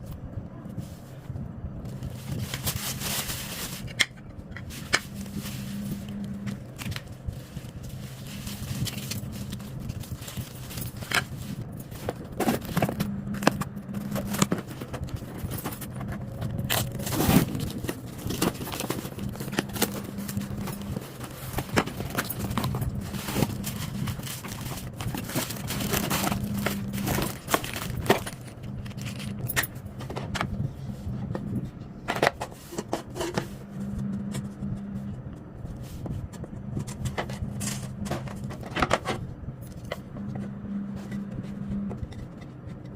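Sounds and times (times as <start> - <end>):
steady low hum: 0.0 - 42.9
packaging clicks and scrapes: 1.9 - 34.5, 35.7 - 42.9.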